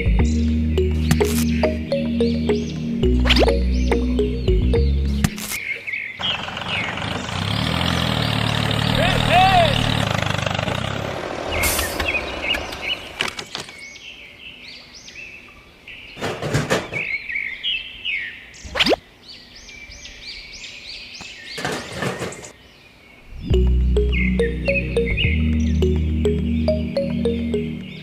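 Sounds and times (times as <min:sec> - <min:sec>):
small birds chirping: 0:00.0 - 0:09.9, 0:11.4 - 0:28.0.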